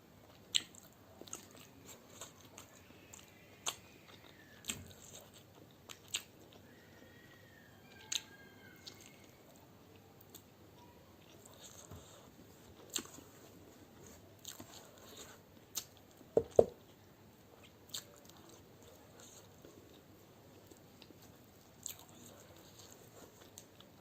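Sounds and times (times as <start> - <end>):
chewing and crunching: 0.3 - 7.1, 7.9 - 24.0.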